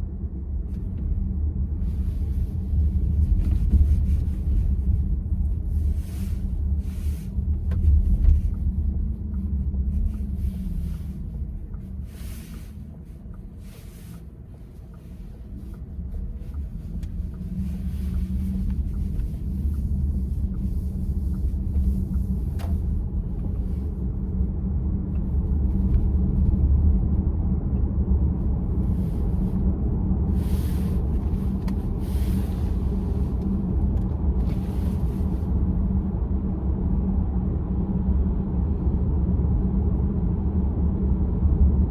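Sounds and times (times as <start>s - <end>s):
road and tyre rumble in cabin: 0.0s - 41.9s.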